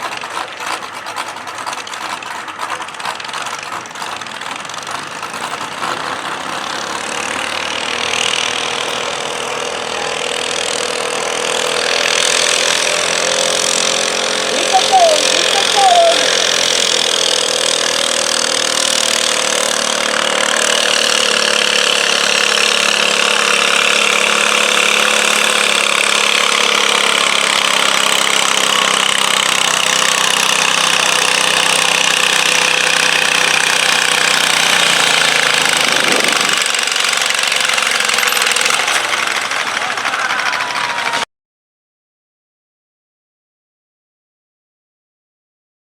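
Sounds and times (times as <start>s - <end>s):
tractor engine running under load: 0.0s - 41.3s.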